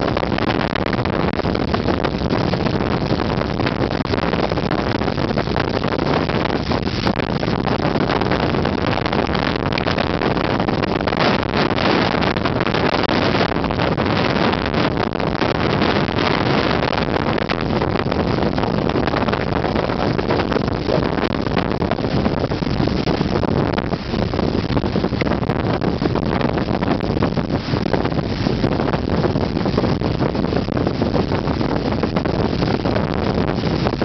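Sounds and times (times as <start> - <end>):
rushing storm wind and water: 0.0 - 34.0
wind buffeting microphone: 0.0 - 34.0.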